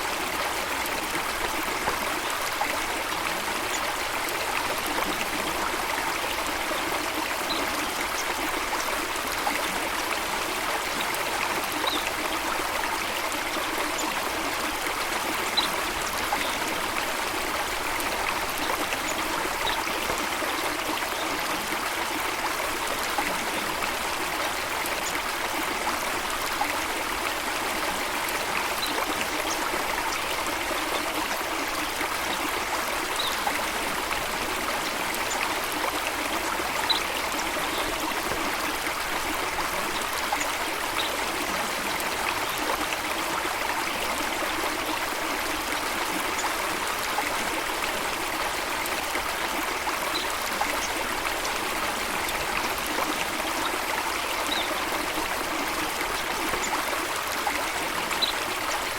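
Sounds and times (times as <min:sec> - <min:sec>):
stream water rushing and trickling: 0:00.0 - 0:58.9.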